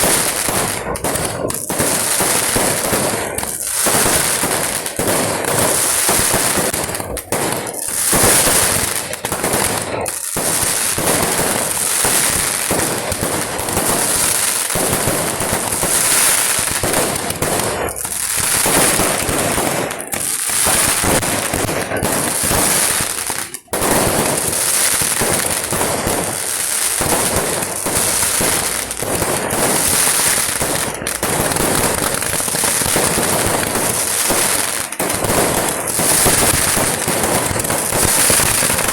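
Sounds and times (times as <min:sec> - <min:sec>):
firecracker barrage crackling: 0:00.0 - 0:38.9.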